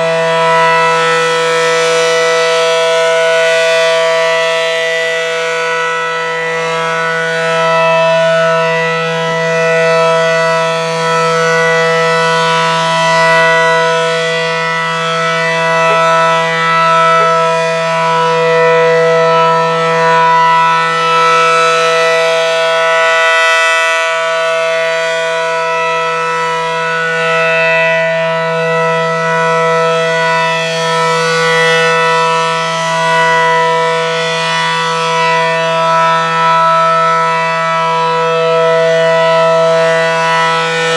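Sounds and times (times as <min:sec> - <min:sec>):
low-pitched warning siren: 0:00.0 - 0:40.9.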